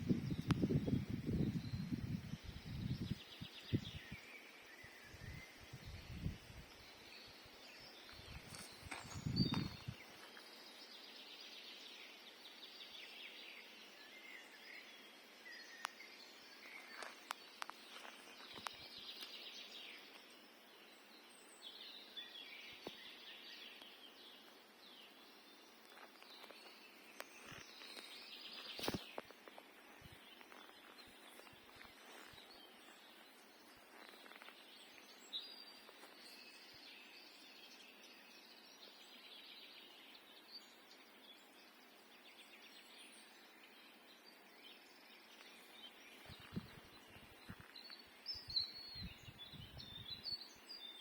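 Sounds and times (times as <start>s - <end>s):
songbirds singing and chirping: 0.0s - 51.0s.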